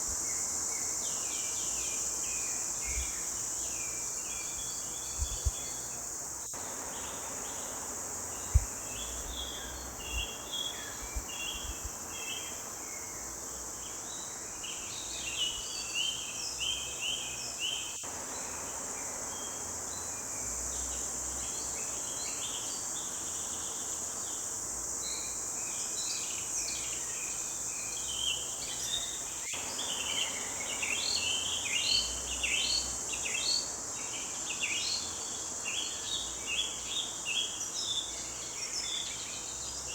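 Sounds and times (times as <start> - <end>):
high insect hiss: 0.0 - 39.9.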